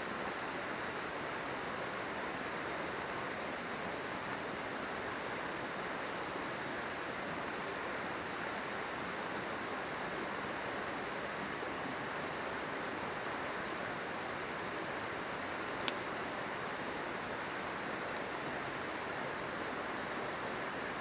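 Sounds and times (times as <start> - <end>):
faint campfire crackles: 0.0 - 21.0
river flowing over rocks: 0.0 - 21.0.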